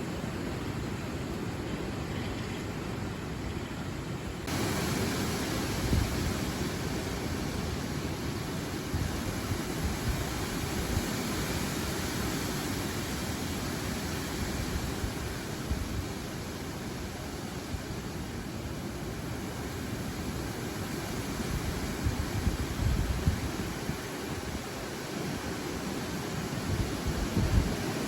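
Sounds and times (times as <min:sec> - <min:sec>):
gusty wind through trees: 0:00.0 - 0:28.0
leaves rustling: 0:00.0 - 0:28.0.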